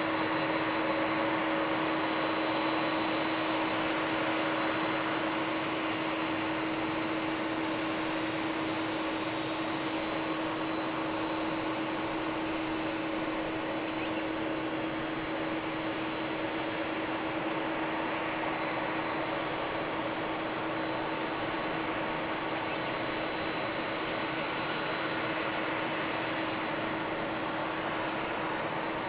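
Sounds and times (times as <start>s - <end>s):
jet engines running at taxi power: 0.0s - 29.0s.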